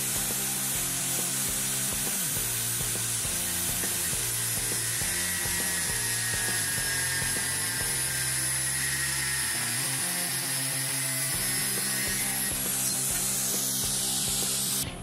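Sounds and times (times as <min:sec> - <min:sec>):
angle grinder cutting steel: 0:00.0 - 0:15.0.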